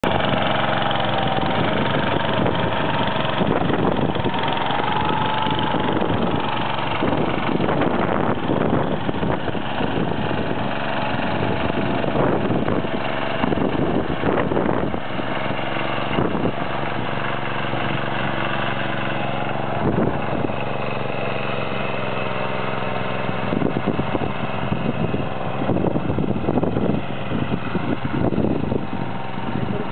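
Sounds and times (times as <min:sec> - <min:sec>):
engine knocking: 0:00.0 - 0:29.9
rotary tines churning soil: 0:00.0 - 0:29.9
small engine running under load: 0:00.0 - 0:29.9.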